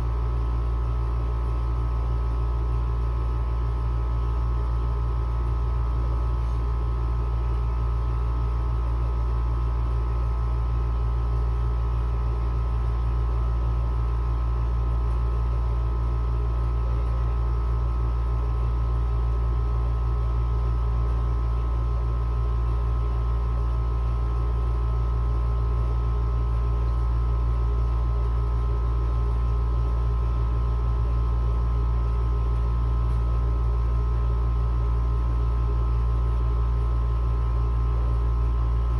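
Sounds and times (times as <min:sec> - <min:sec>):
air conditioner hum: 0:00.0 - 0:38.9
air conditioner whine: 0:00.0 - 0:38.9.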